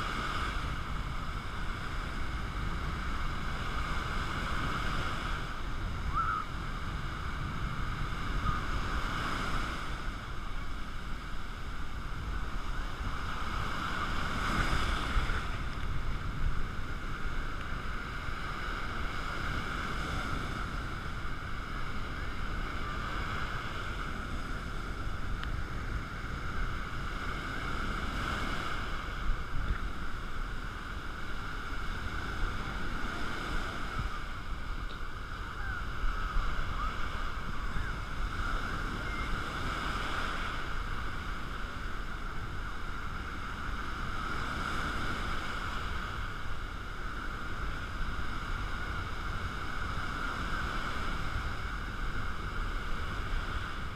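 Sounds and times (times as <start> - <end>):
sea surf breaking on shore: 0.0 - 53.9.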